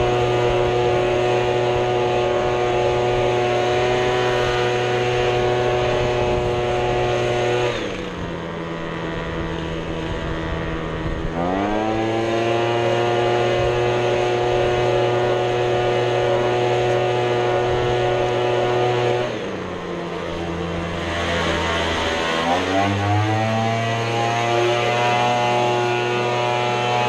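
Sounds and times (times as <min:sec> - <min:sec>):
small gas engine revving: 0:00.0 - 0:27.0.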